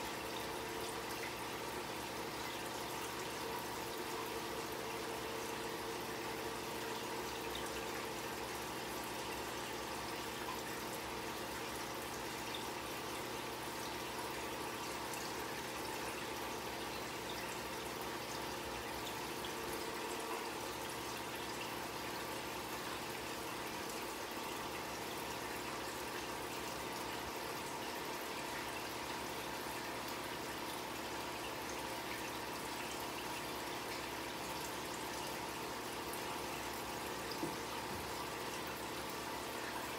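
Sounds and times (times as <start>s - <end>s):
aquarium water trickling: 0.0s - 39.9s
faint steady hum: 0.0s - 39.9s.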